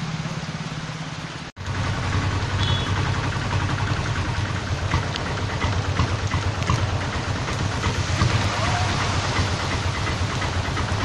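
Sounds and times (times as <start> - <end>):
engine idling: 0.0 - 11.0
heavy rain hiss: 0.0 - 11.0.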